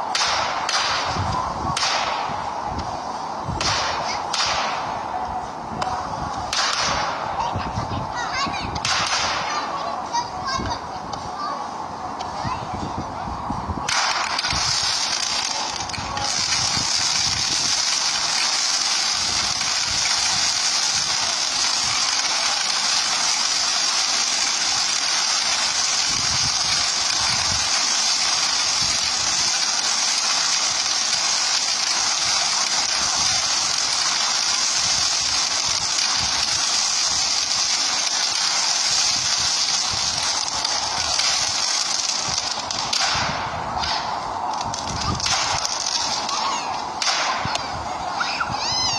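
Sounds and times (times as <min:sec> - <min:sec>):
fireworks hissing and crackling: 0:00.0 - 0:48.9.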